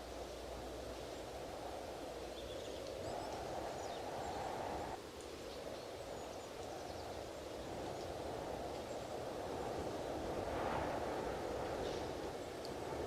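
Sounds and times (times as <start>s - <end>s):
strong wind blowing: 0.0s - 5.0s, 5.7s - 13.0s.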